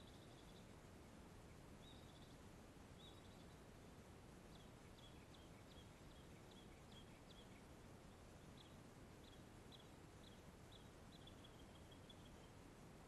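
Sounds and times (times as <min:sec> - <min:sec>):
faint bird chirping: 0:00.0 - 0:13.0
steady low hiss: 0:00.0 - 0:13.0.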